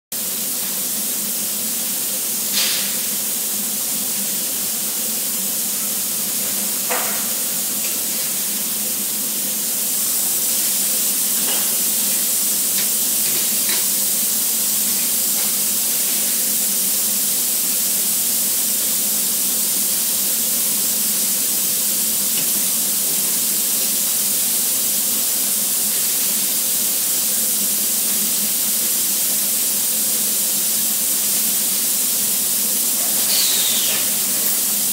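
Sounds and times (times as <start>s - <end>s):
welding shop hiss: 0.2s - 34.9s.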